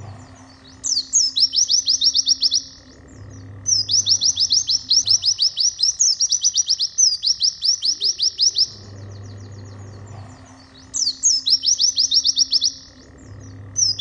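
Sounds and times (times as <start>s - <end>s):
bird singing rapid chirps: 0.0s - 14.0s
faint low hum: 0.0s - 14.0s.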